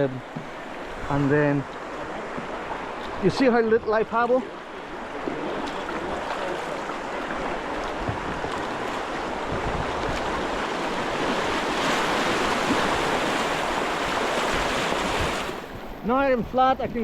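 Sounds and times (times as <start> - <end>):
rushing river water: 0.0 - 17.0.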